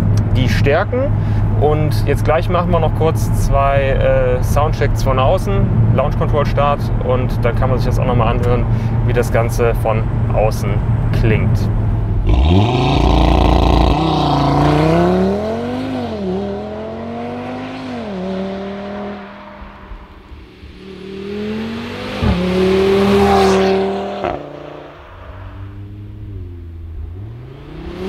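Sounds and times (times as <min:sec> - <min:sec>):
car engine at full throttle: 0:00.0 - 0:28.0.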